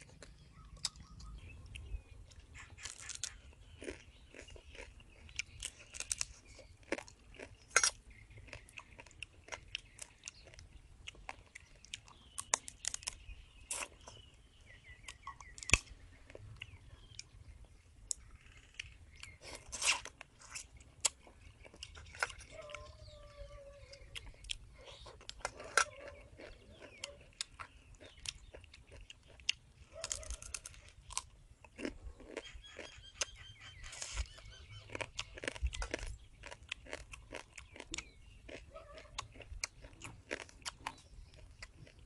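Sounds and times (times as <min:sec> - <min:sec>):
crab shell crunching: 0:00.0 - 0:17.4, 0:18.1 - 0:42.0
chewing: 0:00.0 - 0:42.0.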